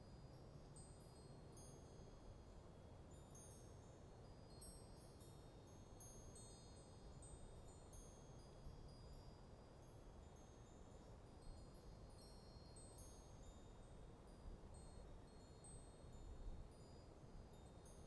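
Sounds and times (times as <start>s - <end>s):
wind chimes tinkling: 3.2s - 18.0s.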